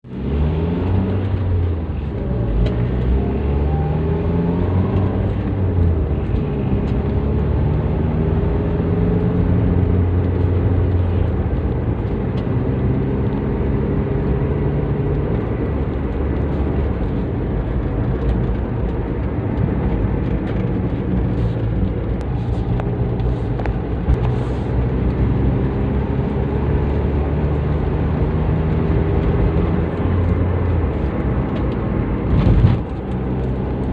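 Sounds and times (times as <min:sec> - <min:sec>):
car engine droning: 0:00.0 - 0:33.9.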